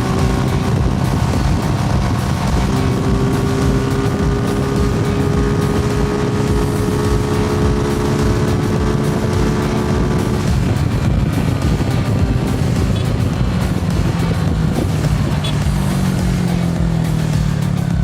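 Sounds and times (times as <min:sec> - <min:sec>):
motorcycle engine and exhaust: 0:00.0 - 0:18.0.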